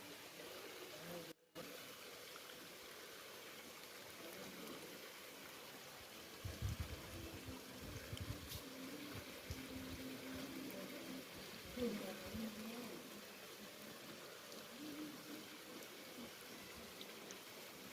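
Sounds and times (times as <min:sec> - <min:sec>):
stream flowing over stones: 0:00.0 - 0:17.9.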